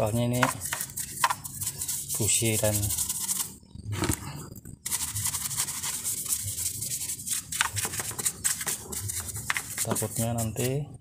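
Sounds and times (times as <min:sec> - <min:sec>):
brush scrubbing engine parts: 0:00.0 - 0:03.5, 0:04.8 - 0:10.9.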